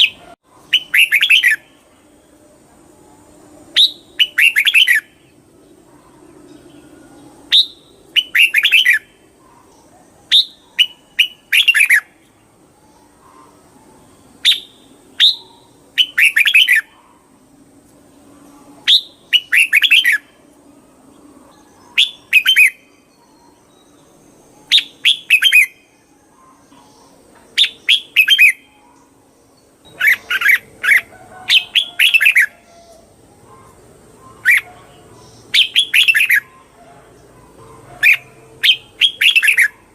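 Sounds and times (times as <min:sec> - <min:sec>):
bird singing chirpy phrases: 0:00.0 - 0:17.4, 0:18.1 - 0:39.9.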